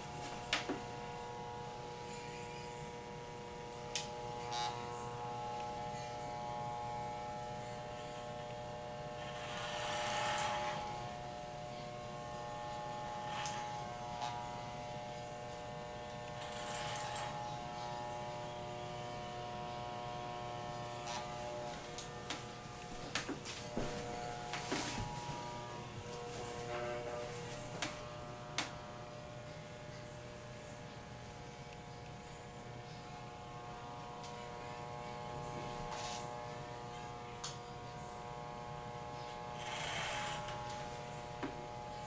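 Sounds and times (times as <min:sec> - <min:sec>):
electric hair clippers humming: 0:00.0 - 0:42.0.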